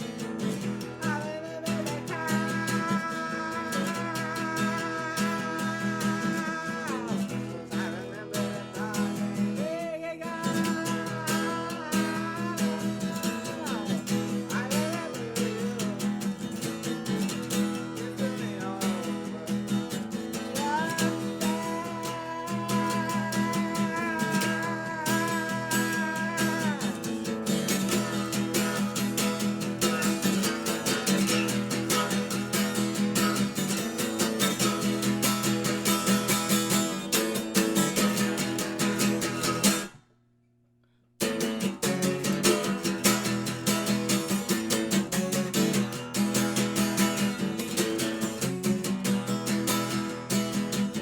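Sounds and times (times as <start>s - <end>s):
guitar strumming: 0.0s - 40.0s, 41.2s - 51.0s.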